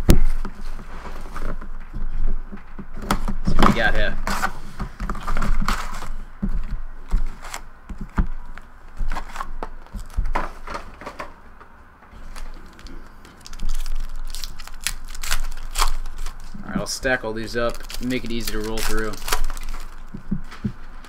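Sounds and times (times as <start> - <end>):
cardboard packs rustling and tapping: 2.6 - 11.4, 12.2 - 21.0.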